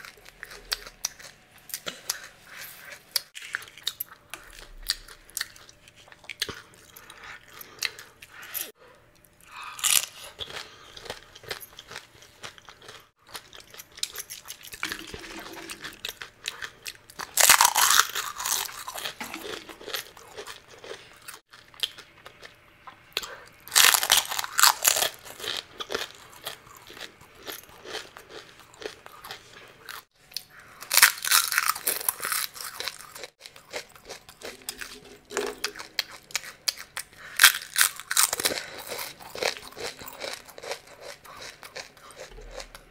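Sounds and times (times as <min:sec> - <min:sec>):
crunching and chewing crisp shells: 0:00.0 - 0:42.9.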